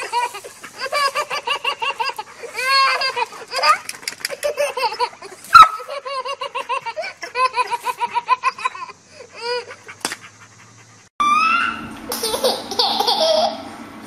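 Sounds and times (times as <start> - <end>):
toddler giggling: 0.0 - 9.8, 12.1 - 13.7.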